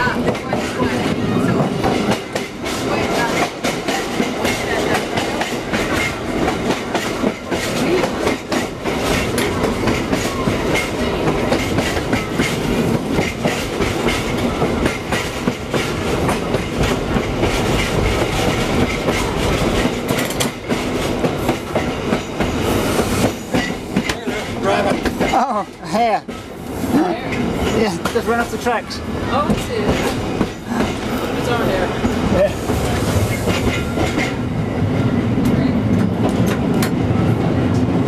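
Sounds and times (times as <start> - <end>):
streetcar wheels rumbling on rail: 0.0 - 38.0.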